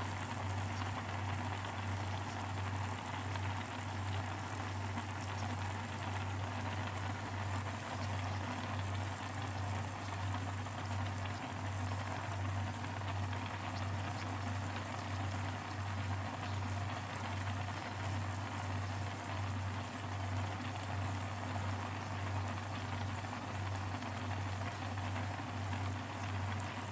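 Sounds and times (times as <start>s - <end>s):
water boiling in a pan: 0.0s - 26.9s.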